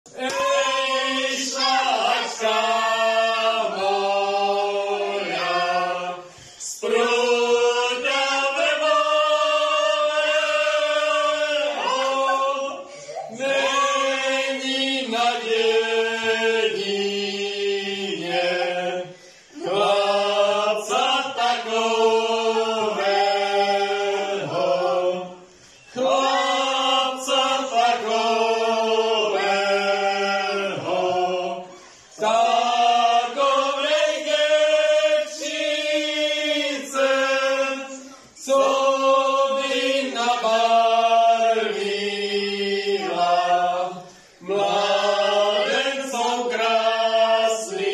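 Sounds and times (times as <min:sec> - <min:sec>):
men and boys singing unaccompanied: 0:00.1 - 0:47.9.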